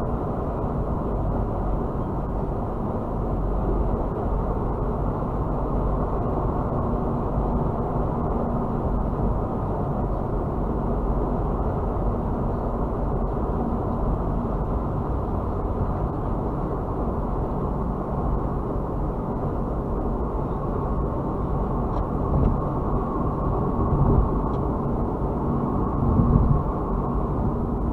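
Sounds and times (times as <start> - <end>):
car road and engine noise: 0.0 - 27.9.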